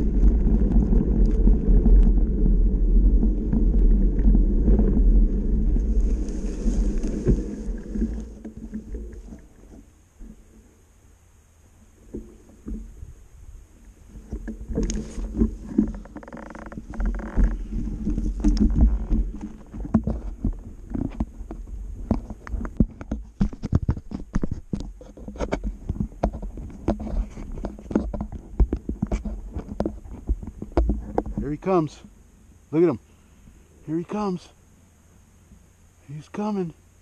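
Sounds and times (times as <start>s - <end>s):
tyre noise on dirt: 0.0s - 10.7s, 12.2s - 32.1s
low wind rumble: 0.0s - 36.1s.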